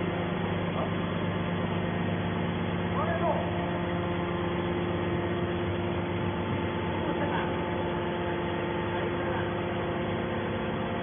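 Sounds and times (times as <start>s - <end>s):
hydraulic motor and pump hum: 0.0s - 11.0s.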